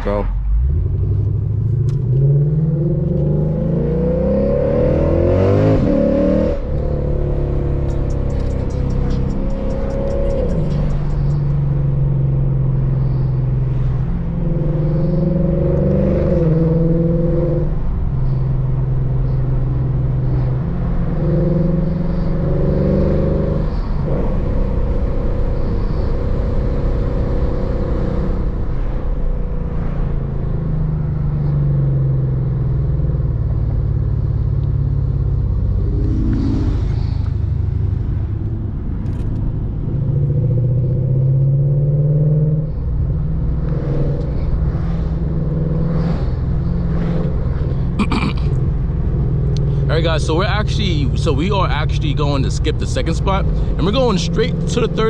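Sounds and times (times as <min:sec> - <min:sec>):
car engine with deep exhaust: 0:00.0 - 0:55.0.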